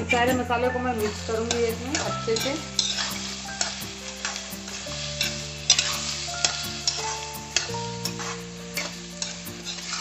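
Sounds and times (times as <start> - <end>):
metal spatula scraping metal pan: 0.0 - 10.0
soft background music: 0.0 - 10.0
vegetables sizzling in oil: 0.0 - 10.0.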